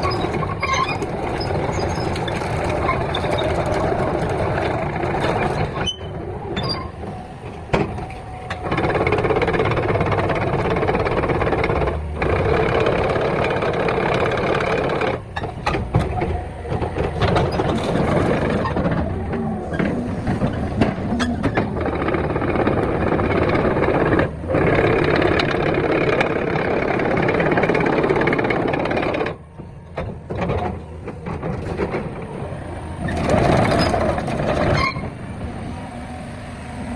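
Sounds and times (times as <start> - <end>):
excavator diesel engine running: 0.0 - 36.9
hydraulic working noise: 0.0 - 36.9.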